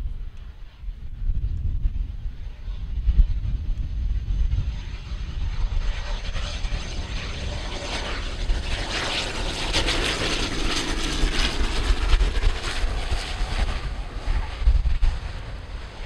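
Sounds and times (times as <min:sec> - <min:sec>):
turboprop engines and propellers: 0:00.0 - 0:16.0.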